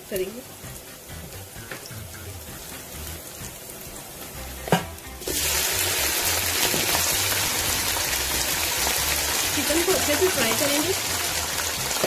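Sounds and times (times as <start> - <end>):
chicken sizzling in oil: 0.0 - 12.0
onions frying in oil: 0.0 - 12.0.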